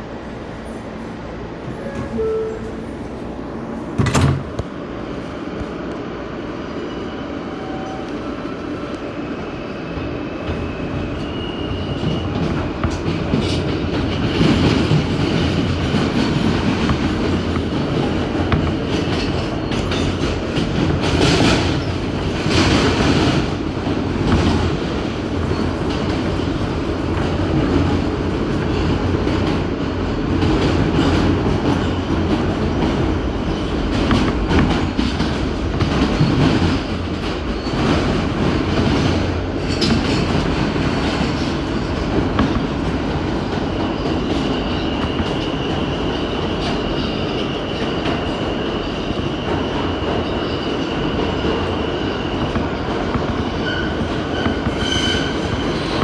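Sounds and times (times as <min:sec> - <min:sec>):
train wheels clacking on rails: 0:09.9 - 0:56.0.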